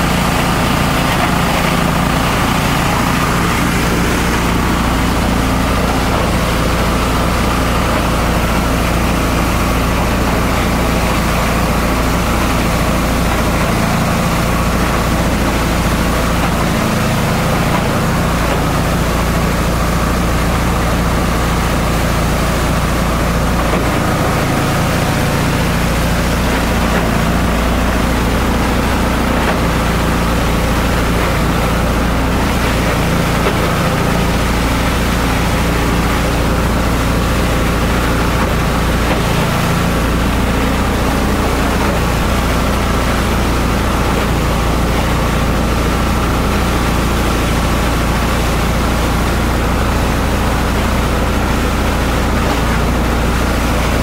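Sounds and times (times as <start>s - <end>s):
shredder running: 0.0s - 54.0s.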